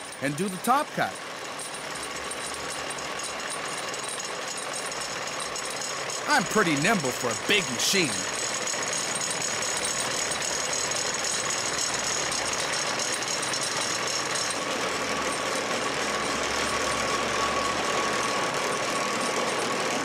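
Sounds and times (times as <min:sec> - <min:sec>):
cutting machine grinding and rattling: 0:00.0 - 0:20.0
steady mechanical whine: 0:00.0 - 0:20.0.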